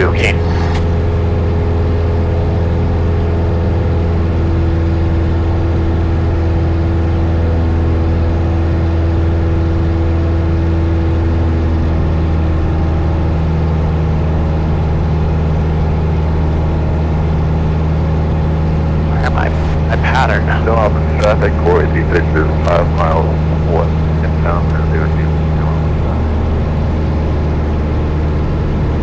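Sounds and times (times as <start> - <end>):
airplane engine and propeller droning: 0.0 - 29.0.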